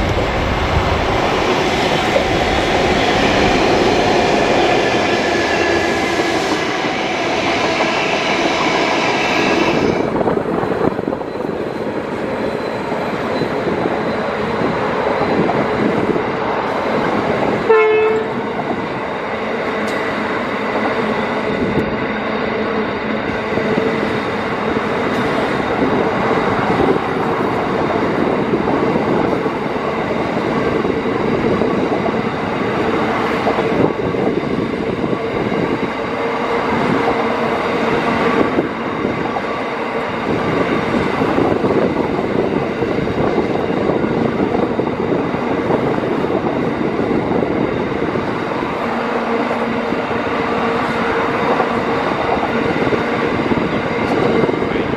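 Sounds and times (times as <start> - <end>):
diesel locomotives: 0.0 - 54.9.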